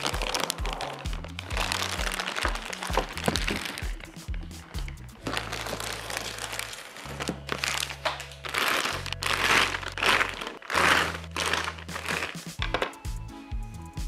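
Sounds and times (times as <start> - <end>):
plastic bags crinkling: 0.0 - 12.9
background music with bass notes: 0.0 - 14.0.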